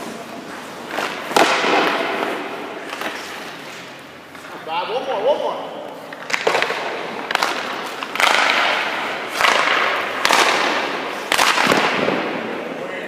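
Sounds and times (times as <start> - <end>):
skates scraping ice: 0.0 - 12.8.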